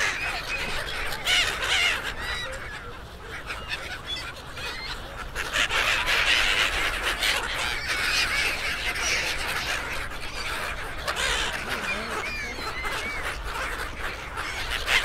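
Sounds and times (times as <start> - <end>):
seagulls calling: 0.0 - 15.0.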